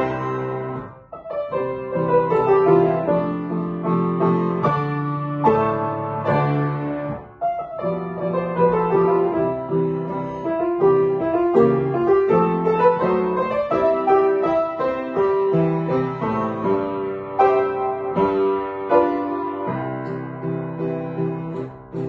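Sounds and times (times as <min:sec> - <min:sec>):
classical piano playing: 0:00.0 - 0:22.0.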